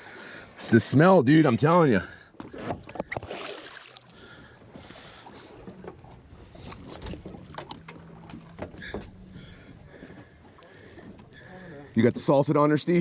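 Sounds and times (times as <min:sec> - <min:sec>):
water sloshing against hull: 0:01.4 - 0:13.0.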